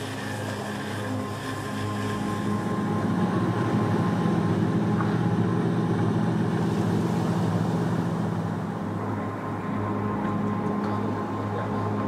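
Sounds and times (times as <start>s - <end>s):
boat diesel engine humming: 0.0s - 12.0s.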